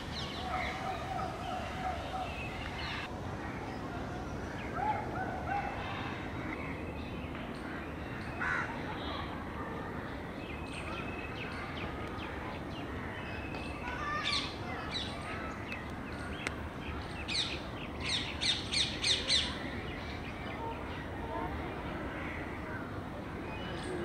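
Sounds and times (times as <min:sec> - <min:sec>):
birds chirping: 0:00.0 - 0:09.3, 0:10.0 - 0:24.0
steady background noise: 0:00.0 - 0:24.0.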